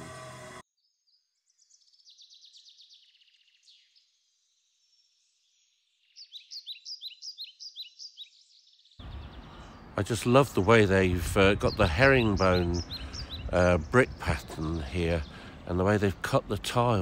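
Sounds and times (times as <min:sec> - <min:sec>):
songbirds trilling and chirping: 0:00.8 - 0:17.0.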